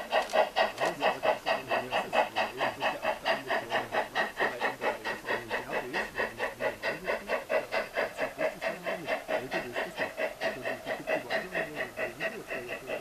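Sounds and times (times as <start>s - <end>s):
model steam locomotive chuffing: 0.0s - 13.0s.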